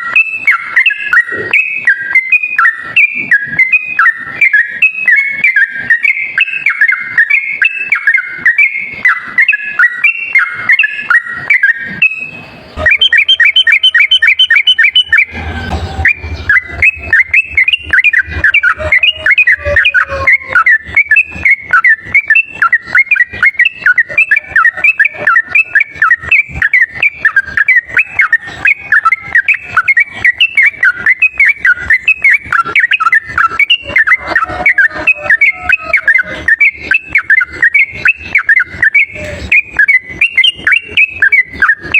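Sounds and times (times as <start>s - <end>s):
bird song chatter: 0.0s - 41.9s.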